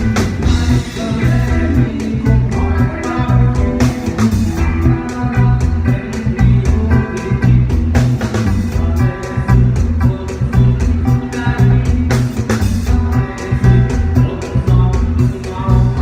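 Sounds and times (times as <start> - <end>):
bass: 0.0 - 16.0
steady drum beat: 0.0 - 16.0.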